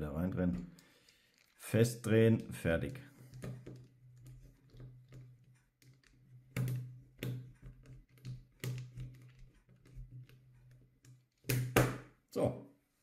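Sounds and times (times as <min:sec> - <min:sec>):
plastic shell handled: 0:00.4 - 0:11.7.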